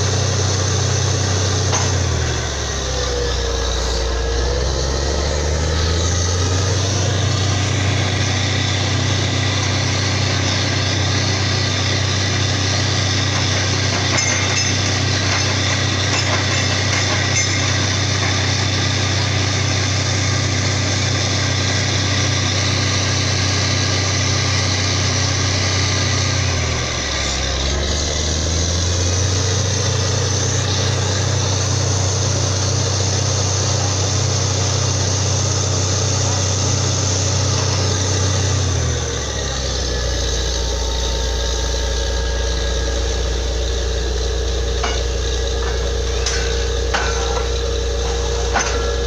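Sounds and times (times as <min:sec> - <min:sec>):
drilling rig engine drone: 0:00.0 - 0:49.0.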